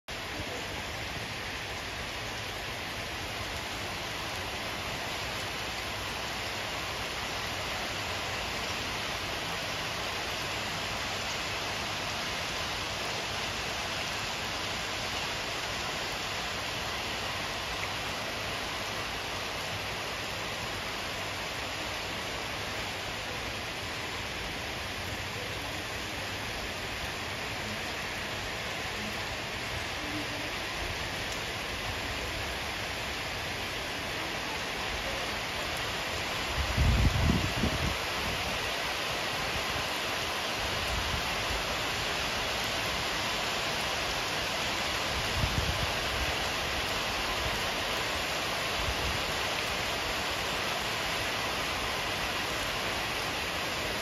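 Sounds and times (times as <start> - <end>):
rain on wet pavement: 0.1 - 54.0.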